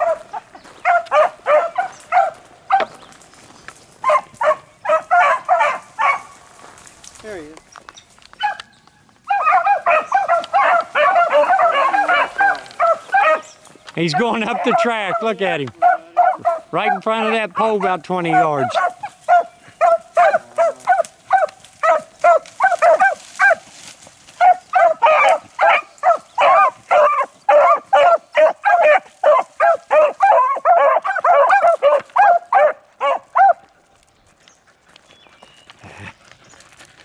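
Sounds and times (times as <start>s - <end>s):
hounds barking: 0.0s - 3.2s, 3.9s - 6.7s, 8.3s - 34.1s.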